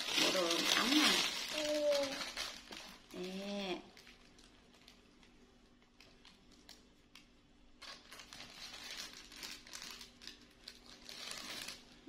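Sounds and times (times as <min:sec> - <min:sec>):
clothes crinkling and rustling: 0:00.0 - 0:07.1, 0:07.8 - 0:12.0.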